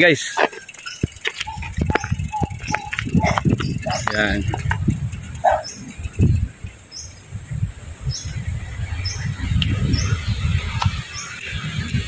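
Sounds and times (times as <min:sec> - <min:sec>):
bird chirping: 0:00.0 - 0:07.3, 0:08.1 - 0:12.0.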